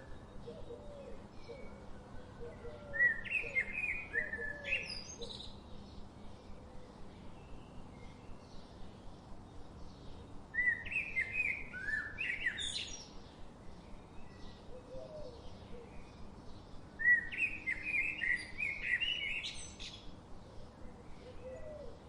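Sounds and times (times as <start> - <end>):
faint birds chirping: 0.0 - 22.0
steady background hiss: 0.0 - 22.0
songbird chirped phrases: 2.5 - 14.8, 15.4 - 21.4.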